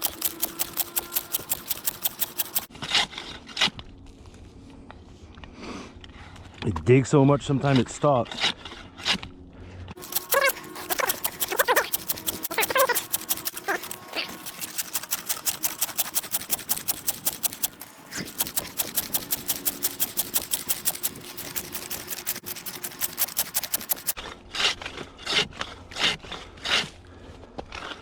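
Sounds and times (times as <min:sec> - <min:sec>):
hand saw rasping through ice: 0:00.0 - 0:03.8, 0:08.2 - 0:09.3, 0:10.0 - 0:28.0.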